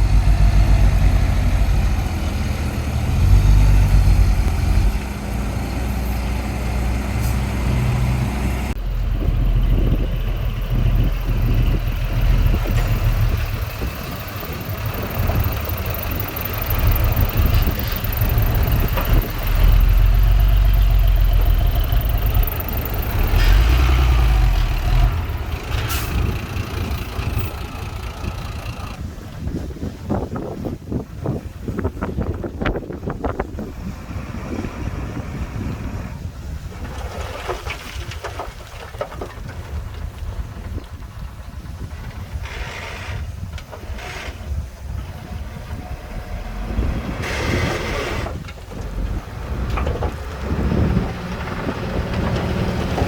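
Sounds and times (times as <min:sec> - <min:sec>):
heavy diesel machine engines: 0:00.0 - 0:53.0.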